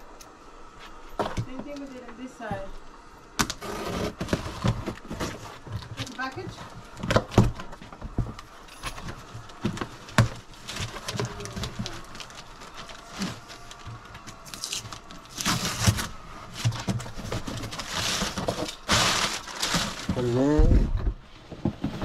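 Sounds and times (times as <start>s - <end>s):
cardboard flaps scraping and rustling: 3.4s - 22.0s.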